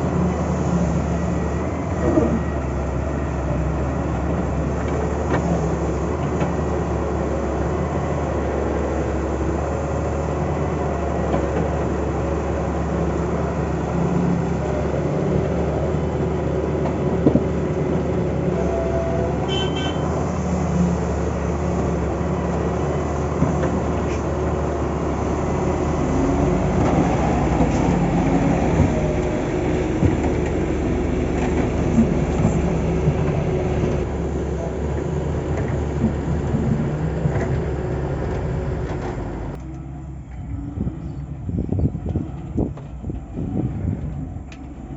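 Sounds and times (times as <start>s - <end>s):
diesel construction machinery running: 0.0s - 44.9s.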